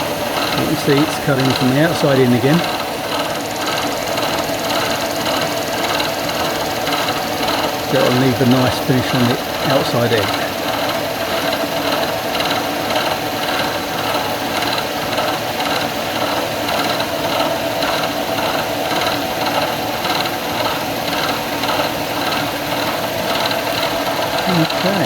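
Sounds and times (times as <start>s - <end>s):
milling machine cutting plastic: 0.0s - 25.0s.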